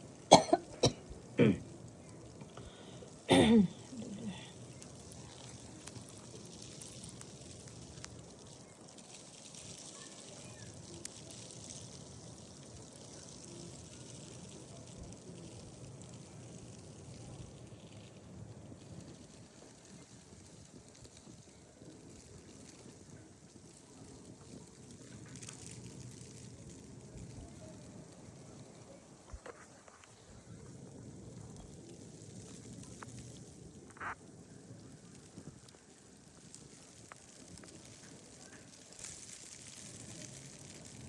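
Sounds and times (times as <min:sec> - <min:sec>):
storm weather hiss: 0:00.0 - 0:41.0.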